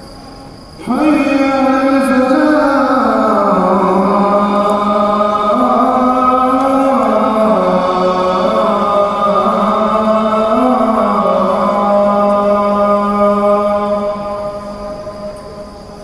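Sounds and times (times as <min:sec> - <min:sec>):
man chanting call to prayer: 0:00.8 - 0:16.0.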